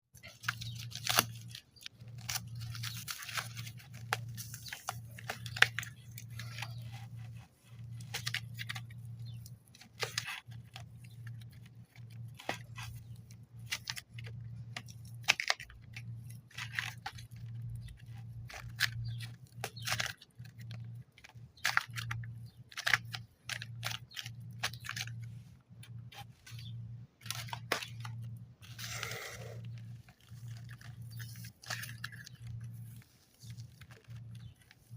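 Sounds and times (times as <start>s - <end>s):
crinkling foil and box packaging: 0.2s - 34.9s
steady low hum: 0.2s - 34.9s.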